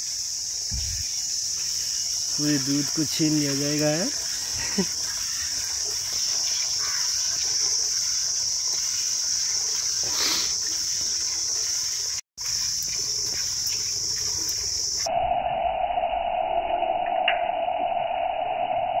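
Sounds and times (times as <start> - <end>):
crickets chirping: 0.0 - 16.7.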